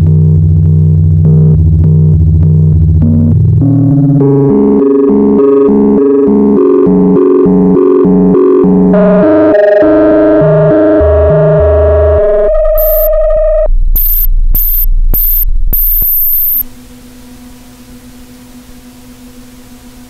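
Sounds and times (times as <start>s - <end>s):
synthesizer electronic music: 0.0s - 16.6s.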